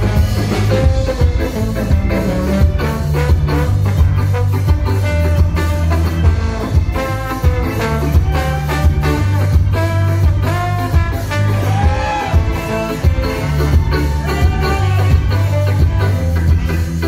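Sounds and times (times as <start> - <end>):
ska band playing: 0.0 - 17.0
trombone: 0.0 - 17.0.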